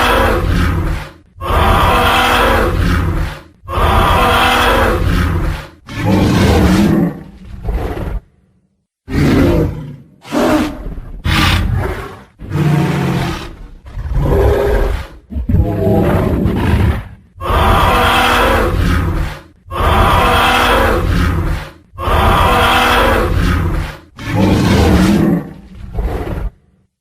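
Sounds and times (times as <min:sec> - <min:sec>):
dinosaur roaring: 0:00.0 - 0:08.3, 0:09.1 - 0:26.7.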